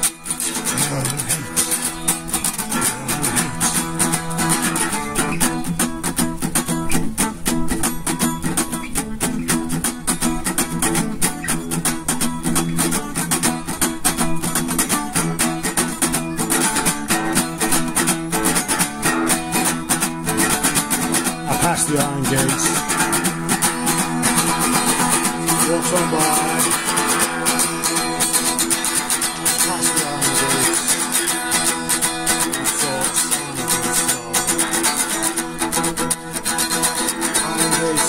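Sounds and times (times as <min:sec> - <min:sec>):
guitar music: 0:00.0 - 0:38.0.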